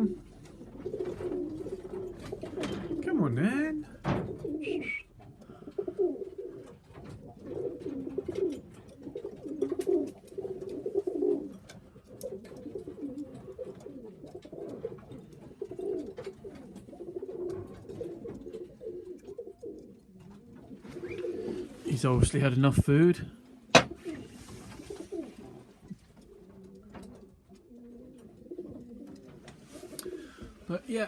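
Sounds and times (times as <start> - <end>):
pigeons cooing: 0.0 - 22.4, 23.0 - 31.0.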